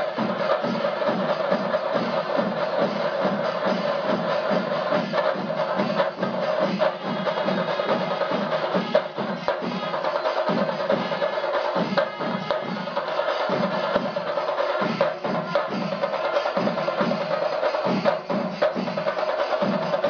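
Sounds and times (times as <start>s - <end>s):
rhythmic drumming: 0.0s - 20.0s.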